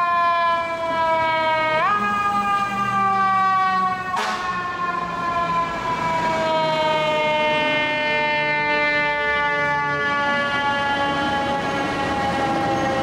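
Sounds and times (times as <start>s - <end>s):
fire engine siren: 0.0s - 13.0s
traffic rumbling: 0.0s - 13.0s.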